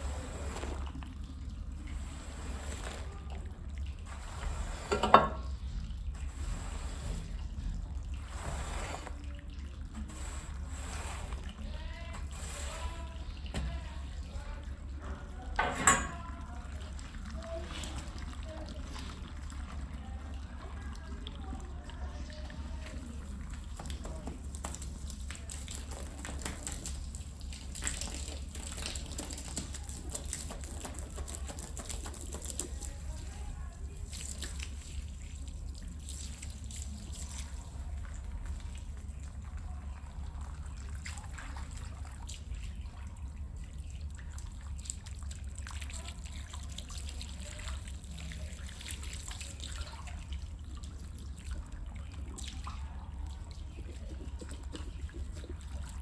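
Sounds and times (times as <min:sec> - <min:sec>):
water splashing and trickling: 0:00.0 - 0:56.0.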